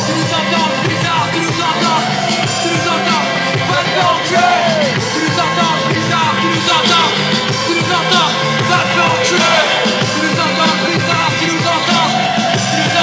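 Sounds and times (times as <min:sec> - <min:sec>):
crowd voices yelling: 0:00.0 - 0:13.0
live band music through pa: 0:00.0 - 0:13.0.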